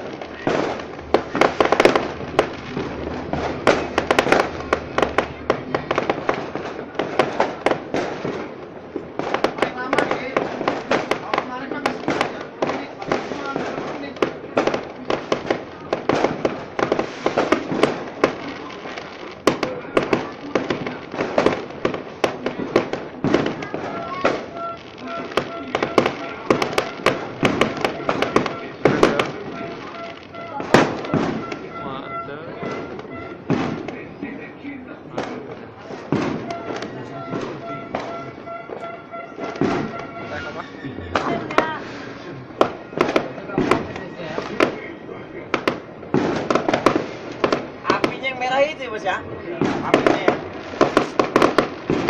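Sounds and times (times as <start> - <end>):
continuous rumble: 0.0 - 52.0
fireworks bangs and crackles: 0.0 - 52.0.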